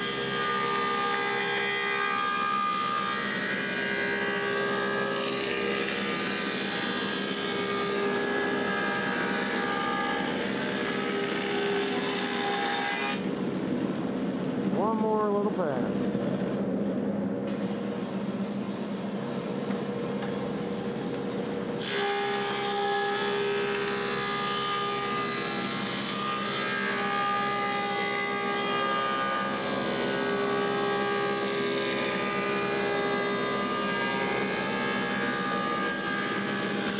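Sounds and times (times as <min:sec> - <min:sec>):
planer humming and whining: 0:00.0 - 0:13.3, 0:17.5 - 0:36.9.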